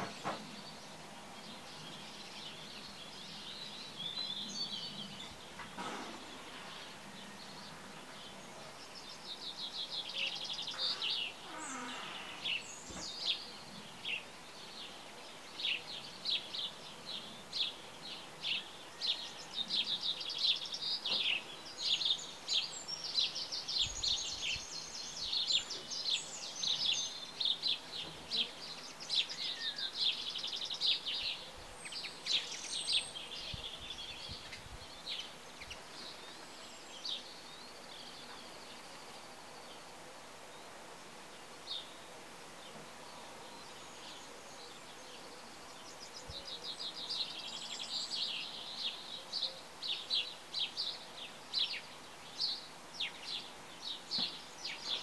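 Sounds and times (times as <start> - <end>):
faint steady hiss: 0.0 - 55.0
small birds chirping: 0.0 - 55.0.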